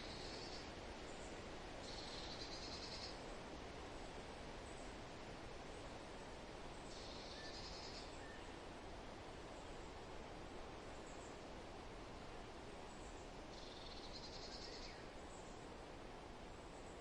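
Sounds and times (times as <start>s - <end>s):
wind and rustling leaves: 0.0s - 17.0s.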